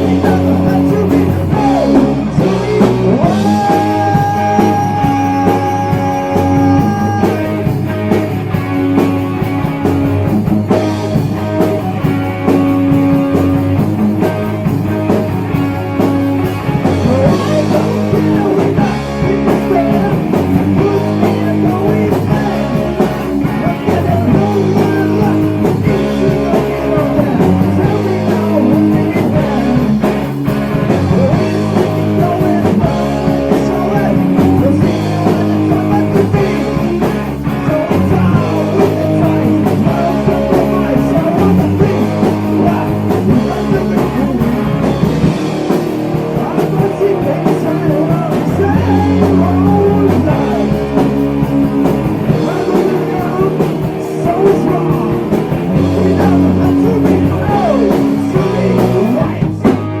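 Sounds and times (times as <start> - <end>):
person singing: 0.0 - 8.2, 16.7 - 60.0
heavy metal band playing: 0.0 - 60.0.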